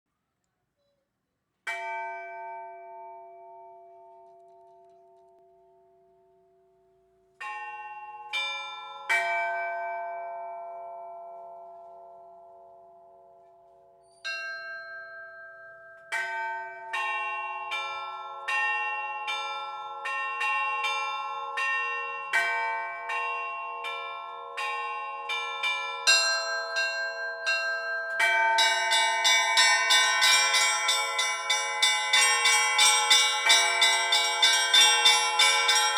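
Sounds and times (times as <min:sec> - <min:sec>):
church bells ringing: 0:01.7 - 0:05.8, 0:07.4 - 0:13.5, 0:14.2 - 0:35.9.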